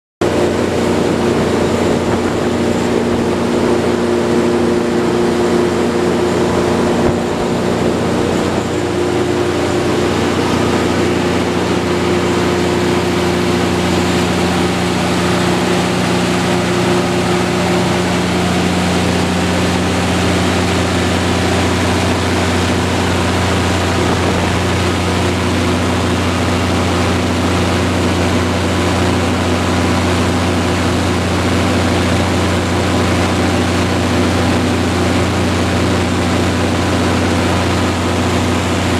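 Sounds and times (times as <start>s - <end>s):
generator engine drone: 0.2s - 38.9s.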